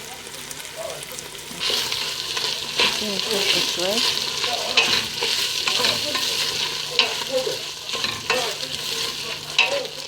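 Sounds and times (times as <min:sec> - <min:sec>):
food sizzling in a pot: 0:00.0 - 0:10.0
spoon scraping a pot: 0:01.6 - 0:10.0.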